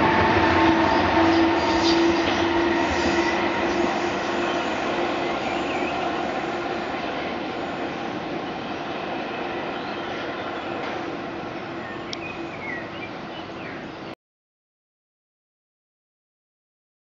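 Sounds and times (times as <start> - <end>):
electric train rumbling past: 0.0 - 14.1.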